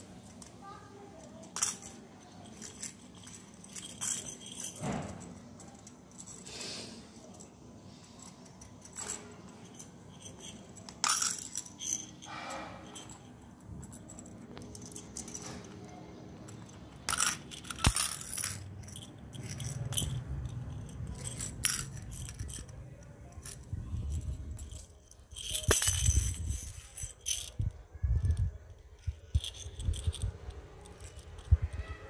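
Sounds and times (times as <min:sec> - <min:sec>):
plastic jingle balls rattling: 0:00.0 - 0:06.6, 0:07.2 - 0:31.9.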